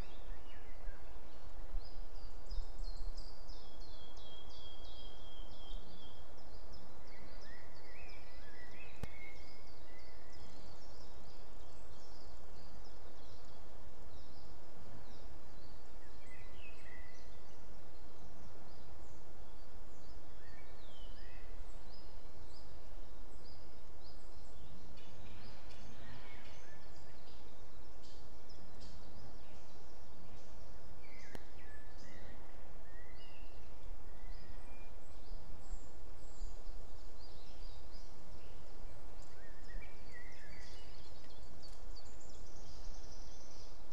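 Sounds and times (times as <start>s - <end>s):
small birds singing and chirping: 0.0s - 43.9s.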